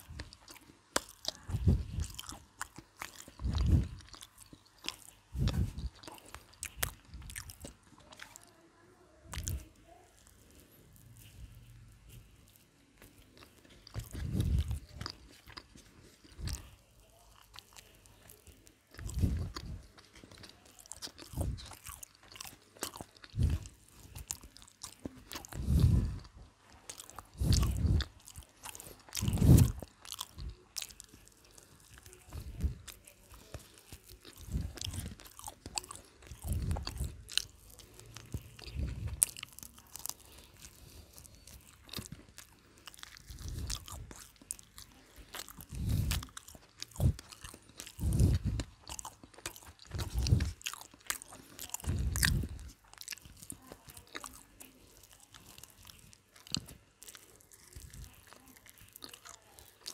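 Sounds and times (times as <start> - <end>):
chewing fried chicken: 0.0 - 59.9.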